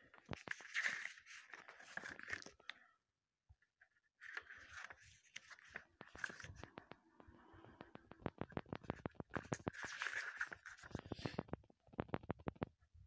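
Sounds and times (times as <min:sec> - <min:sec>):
paper pages rustling: 0:00.0 - 0:02.8, 0:04.2 - 0:12.7.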